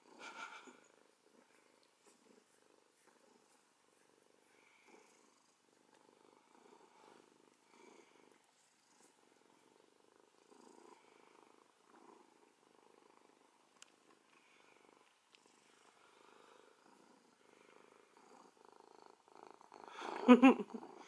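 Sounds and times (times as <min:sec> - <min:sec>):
cat purring faintly: 0:00.0 - 0:21.0.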